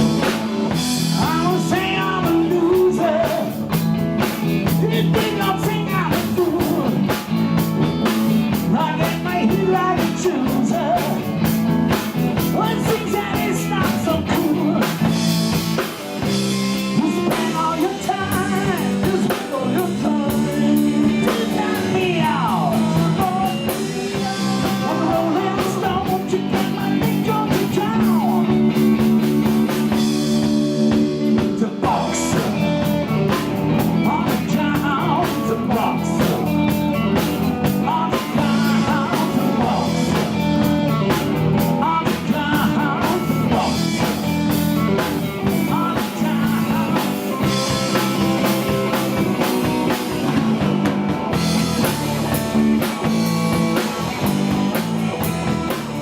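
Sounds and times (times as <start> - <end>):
drum kit: 0.0 - 56.0
electric guitar bending notes: 0.0 - 56.0.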